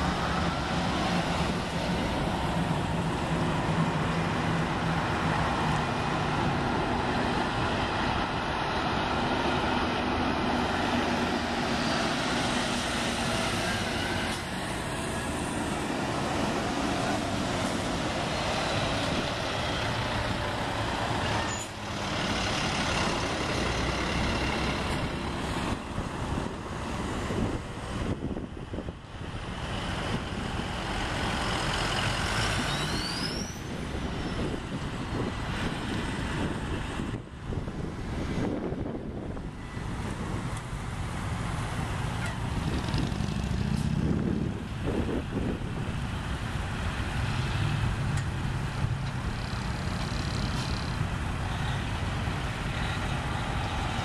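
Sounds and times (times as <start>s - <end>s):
heavy truck engines: 0.0s - 54.0s.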